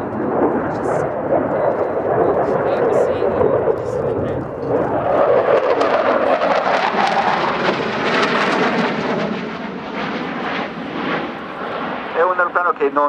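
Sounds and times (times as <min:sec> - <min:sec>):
fighter jet rushing with crackle: 0:00.0 - 0:13.0.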